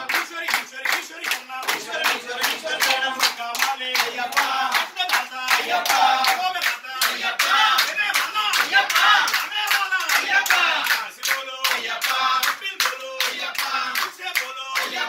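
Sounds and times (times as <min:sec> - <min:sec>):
hands clapping in steady beat: 0:00.0 - 0:15.0
men singing together: 0:00.0 - 0:15.0.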